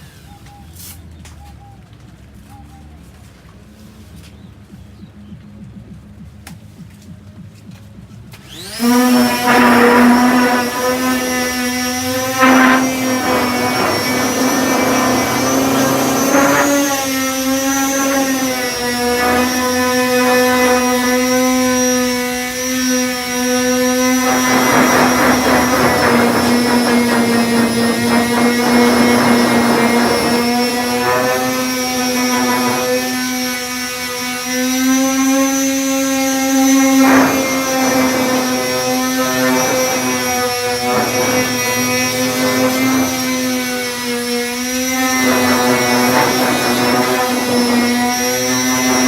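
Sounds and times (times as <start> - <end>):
disc sander humming: 8.4 - 49.0
sander rasping on filler: 8.4 - 49.0.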